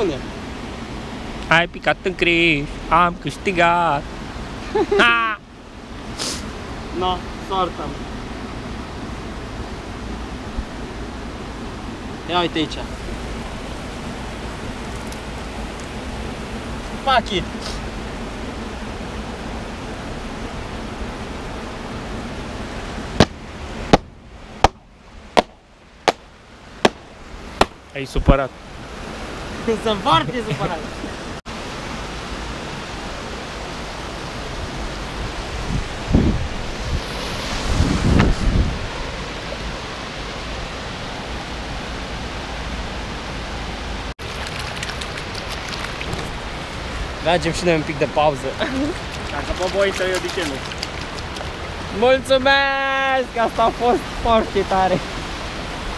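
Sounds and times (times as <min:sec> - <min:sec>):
river water over weir: 0:00.0 - 0:55.9
steady rushing hiss: 0:00.0 - 0:55.9.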